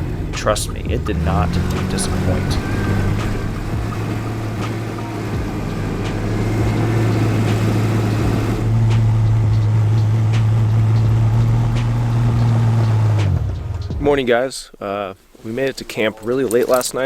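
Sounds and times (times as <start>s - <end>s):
truck engine droning: 0.0s - 14.3s.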